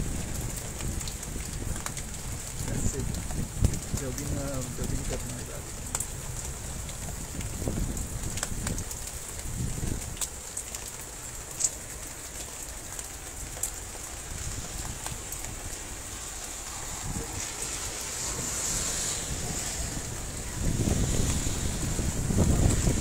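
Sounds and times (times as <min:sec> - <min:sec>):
hailstones striking: 0:00.0 - 0:23.0
heavy rain and hail: 0:00.0 - 0:23.0
wind rumbling on microphone: 0:00.0 - 0:23.0.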